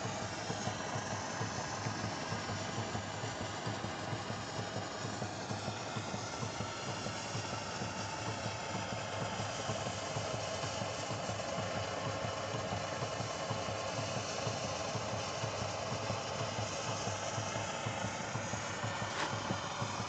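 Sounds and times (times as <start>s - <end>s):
engine mechanical beat: 0.0s - 20.0s.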